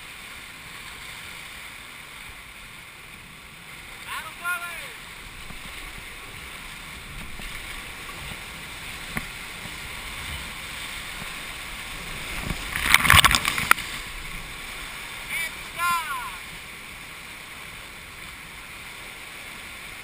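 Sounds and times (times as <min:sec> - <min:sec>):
river water rushing: 0:00.0 - 0:20.0
loud water splashing: 0:03.8 - 0:20.0.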